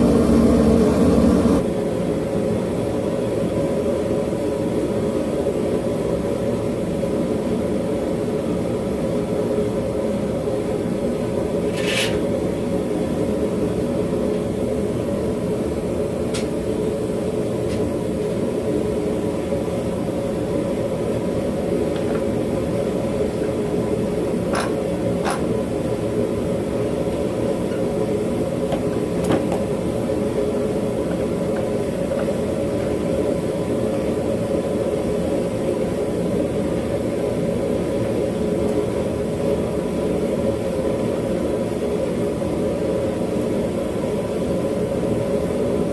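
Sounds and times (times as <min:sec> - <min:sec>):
forge burner roaring: 0:00.0 - 0:45.9.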